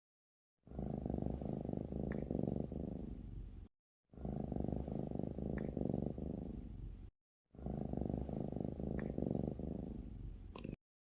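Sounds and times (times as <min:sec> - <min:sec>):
cat purring: 0:00.7 - 0:10.8.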